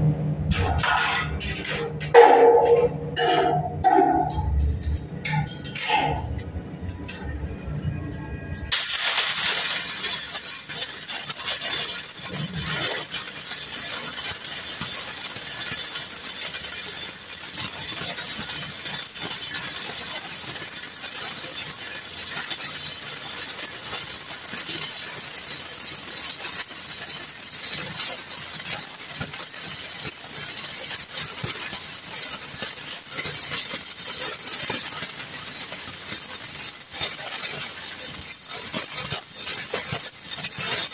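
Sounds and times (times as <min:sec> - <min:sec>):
welding arc crackling: 0:00.0 - 0:40.9.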